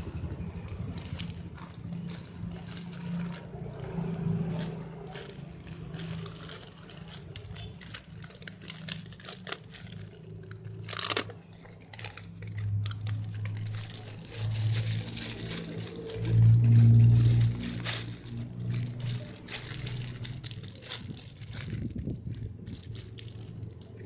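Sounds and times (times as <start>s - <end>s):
packaging crinkling and rustling: 0.0s - 24.0s.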